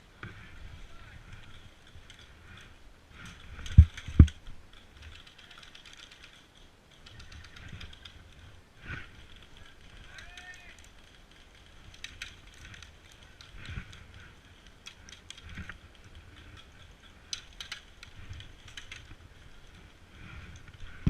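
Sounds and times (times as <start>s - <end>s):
light clicks and rattles: 0.2s - 21.0s.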